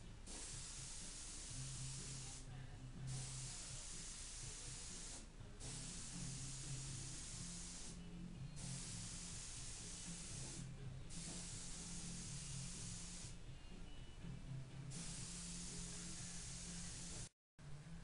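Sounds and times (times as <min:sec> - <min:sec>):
paint spray gun hissing: 0:00.0 - 0:08.0, 0:08.6 - 0:13.4, 0:14.9 - 0:17.3.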